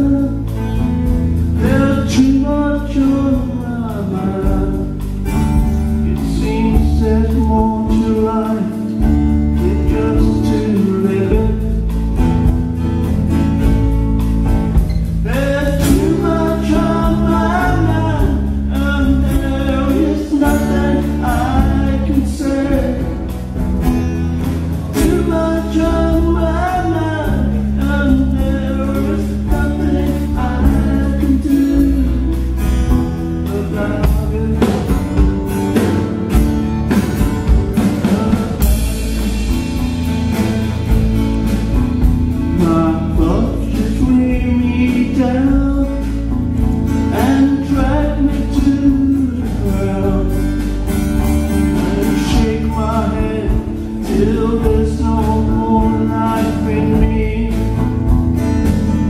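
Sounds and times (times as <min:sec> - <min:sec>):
man singing: 0:00.0 - 0:12.3, 0:15.1 - 0:23.6, 0:24.3 - 0:36.1, 0:37.7 - 0:40.1, 0:42.2 - 0:59.0
drums: 0:00.0 - 0:59.0
electric bass: 0:00.0 - 0:59.0
strummed acoustic guitar: 0:00.0 - 0:59.0.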